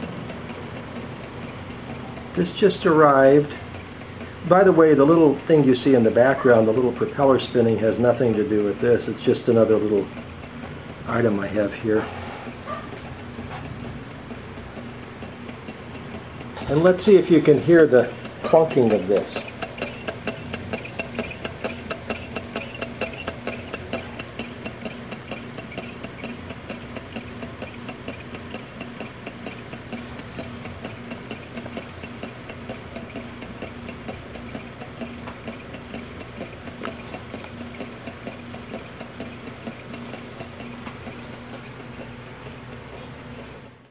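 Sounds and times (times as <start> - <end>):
small engine clunking rhythmically: 0.0 - 43.9.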